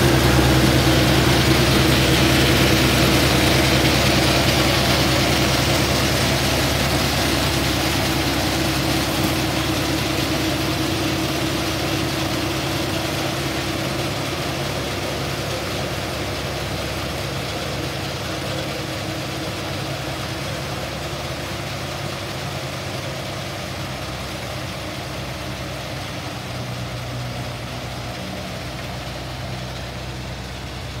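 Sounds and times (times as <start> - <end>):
harvester engine and machinery humming: 0.0 - 31.0.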